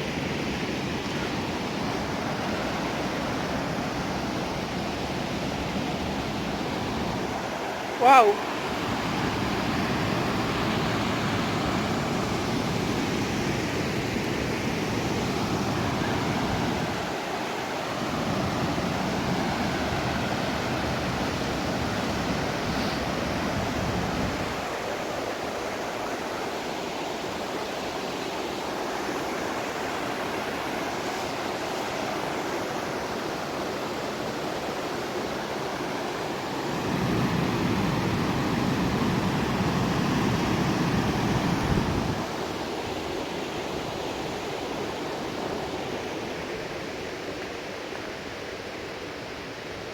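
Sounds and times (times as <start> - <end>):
mountain river rushing: 0.0 - 49.9.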